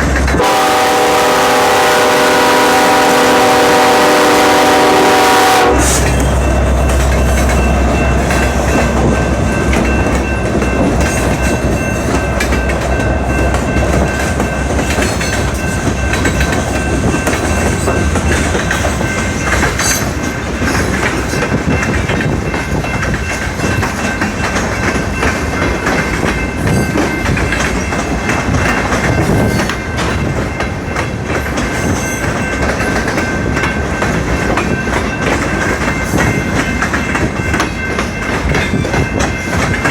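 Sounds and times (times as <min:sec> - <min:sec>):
diesel locomotive rumble: 0:00.0 - 0:39.9
train wheels clacking over rail joints: 0:00.0 - 0:39.9.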